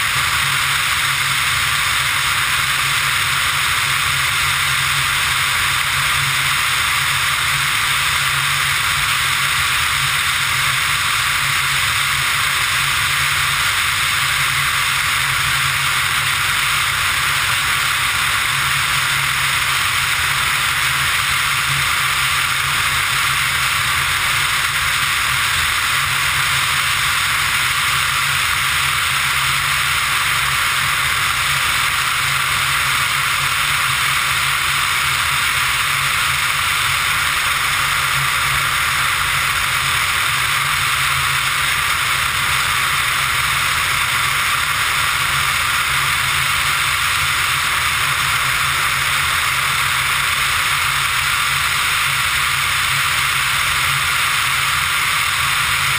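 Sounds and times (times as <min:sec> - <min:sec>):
aircraft engine drone: 0:00.0 - 0:55.9.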